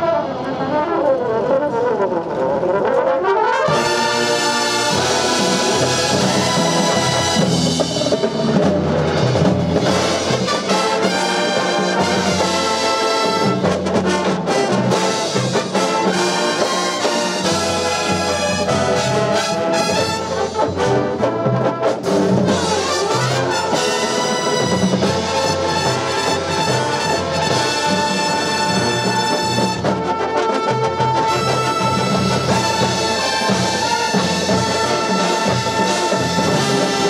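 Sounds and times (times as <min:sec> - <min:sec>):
drums: 0:00.0 - 0:37.0
brass horns playing chords: 0:02.3 - 0:37.0.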